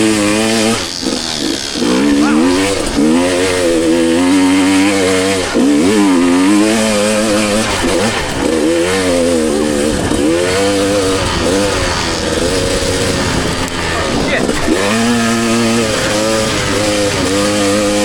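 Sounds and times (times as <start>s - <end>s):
two-stroke dirt bike engine revving: 0.0s - 18.0s.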